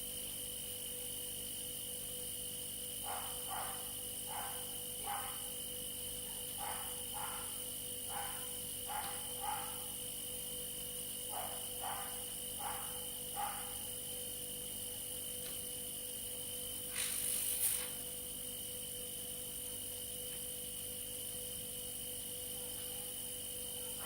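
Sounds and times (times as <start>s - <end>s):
electrical hum with high whine: 0.0s - 24.0s.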